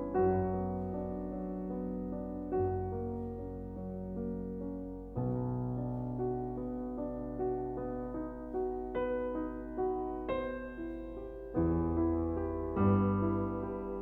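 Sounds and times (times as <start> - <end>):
slow calm piano music: 0.0 - 14.0.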